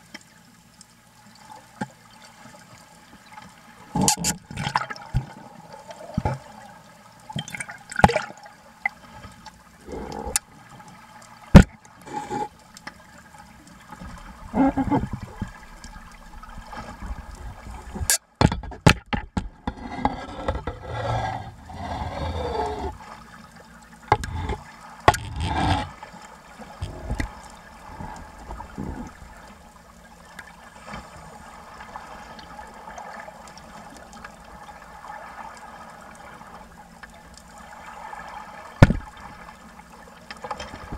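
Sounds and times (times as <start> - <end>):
underwater water sloshing and bubbling: 0.0 - 40.9.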